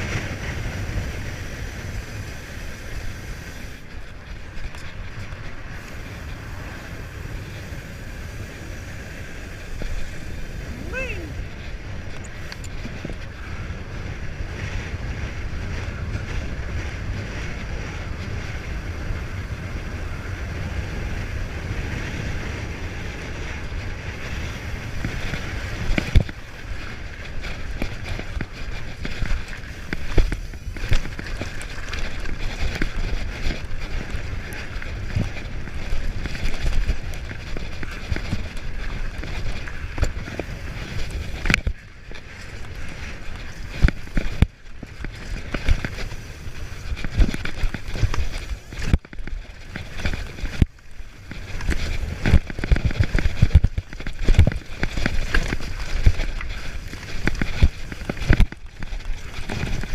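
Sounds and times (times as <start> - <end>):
bike knocking and rattling: 0.0 - 59.9
steady rushing noise: 0.0 - 59.9
wind buffeting microphone: 0.0 - 59.9.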